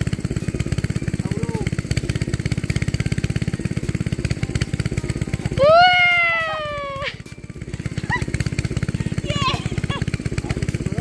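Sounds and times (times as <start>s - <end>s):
small engine puttering: 0.0s - 11.0s.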